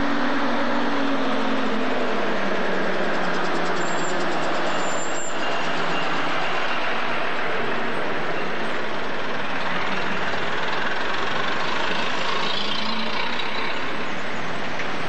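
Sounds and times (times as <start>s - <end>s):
street traffic engines: 0.0s - 15.0s.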